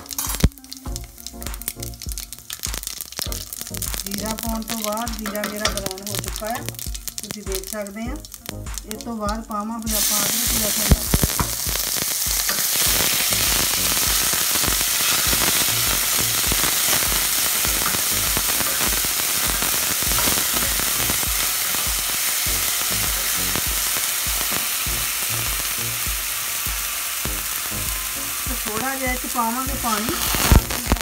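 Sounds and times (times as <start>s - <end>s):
paste sizzling in hot oil: 0.0s - 31.0s.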